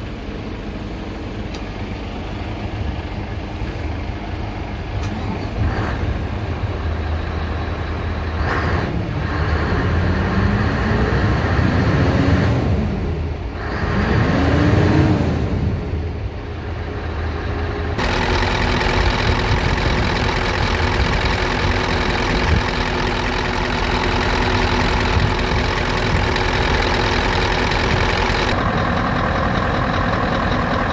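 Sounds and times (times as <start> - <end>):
diesel engine idling: 0.0 - 11.5, 15.5 - 30.9
diesel engine revving: 3.6 - 30.9.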